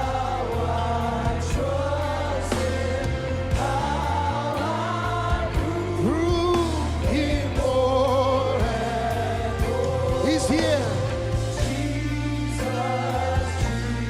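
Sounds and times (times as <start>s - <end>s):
gospel singing voices: 0.0s - 14.0s
held chords: 0.0s - 14.0s
steady bass: 0.0s - 14.0s.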